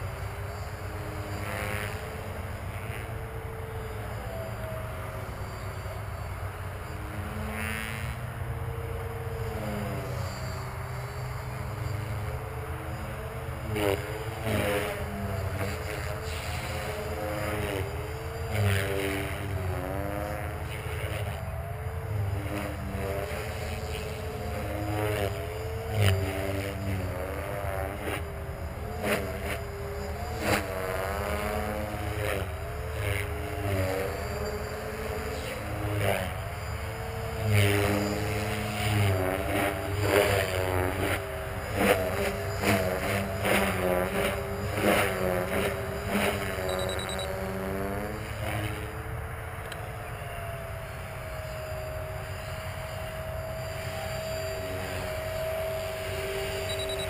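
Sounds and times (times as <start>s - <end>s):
low hum: 0.0s - 57.0s
rc helicopter rotor whine: 0.0s - 57.0s.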